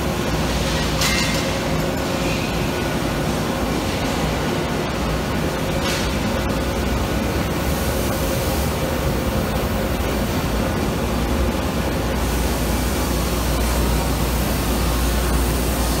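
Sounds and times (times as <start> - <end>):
factory machinery hum and hiss: 0.0 - 16.0.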